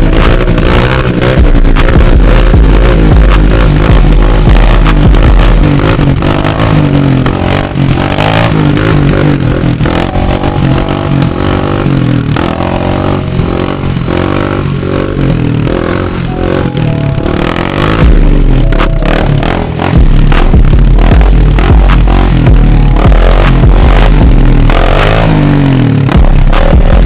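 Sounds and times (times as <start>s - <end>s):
off-road engines revving: 0.0s - 27.0s.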